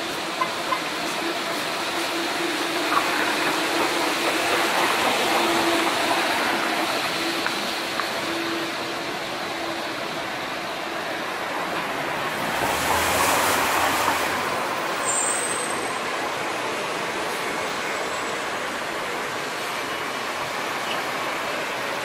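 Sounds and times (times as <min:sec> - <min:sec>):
passing traffic: 0:00.0 - 0:22.0.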